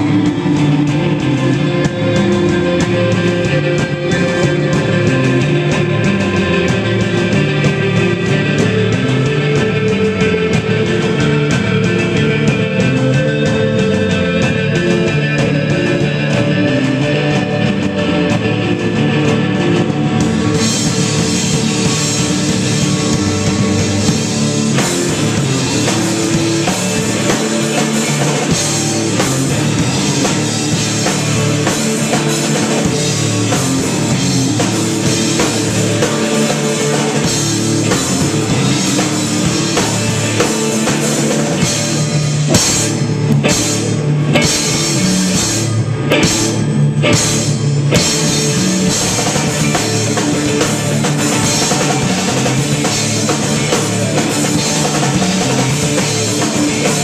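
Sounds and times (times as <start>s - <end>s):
distorted electric guitars: 0.0s - 57.0s
drum kit: 0.0s - 57.0s.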